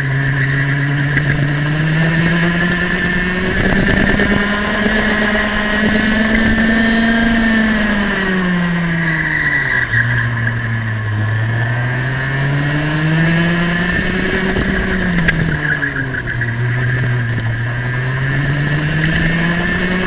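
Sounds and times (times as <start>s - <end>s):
kart engine at full throttle: 0.0s - 20.0s.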